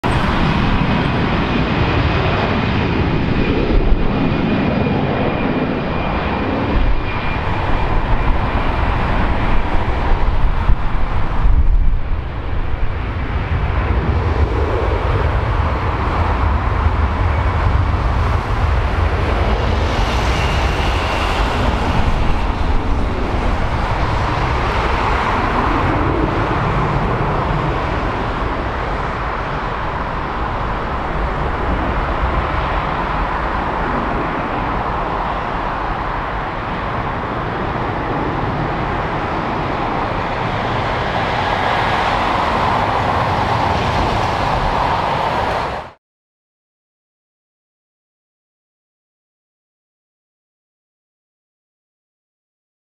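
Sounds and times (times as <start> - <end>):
jet engines rumbling and whining: 0.0 - 46.0.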